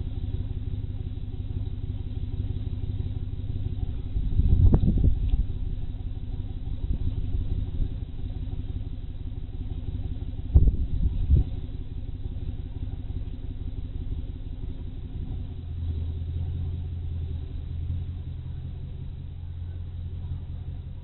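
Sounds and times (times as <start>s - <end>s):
car engine low drone: 0.0s - 21.0s.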